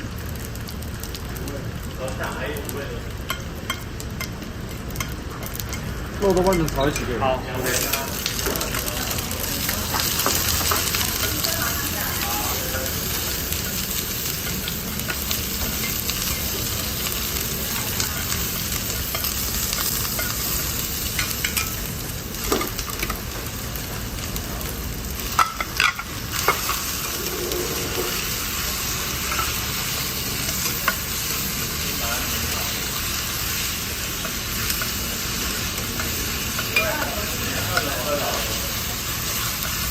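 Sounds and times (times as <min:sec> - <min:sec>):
meat sizzling: 0:00.0 - 0:39.9.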